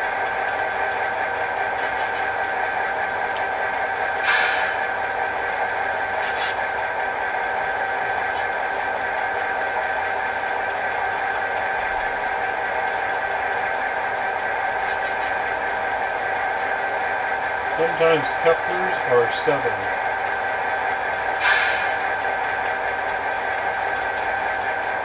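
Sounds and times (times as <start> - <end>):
model locomotive idle hum: 0.0 - 25.0.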